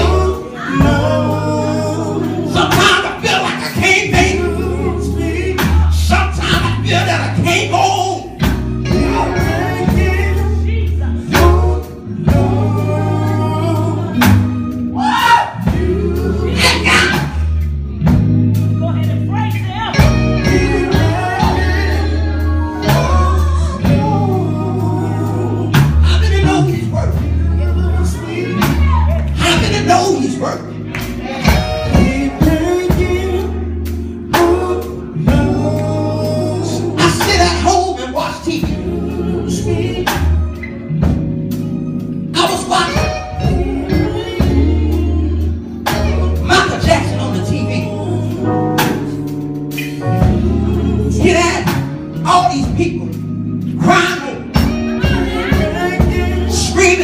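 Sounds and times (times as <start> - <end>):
gospel singing: 0.0 - 57.0
instrumental backing: 0.0 - 57.0
sustained bass notes: 0.0 - 57.0.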